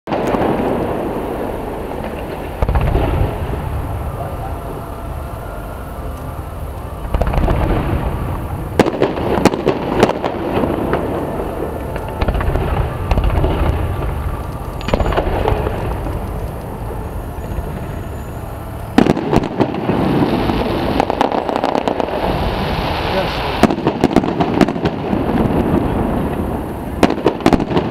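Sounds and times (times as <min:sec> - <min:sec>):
firework shells booming: 0:00.1 - 0:04.8, 0:07.0 - 0:18.0, 0:18.9 - 0:27.9
fireworks crackling: 0:00.1 - 0:27.9.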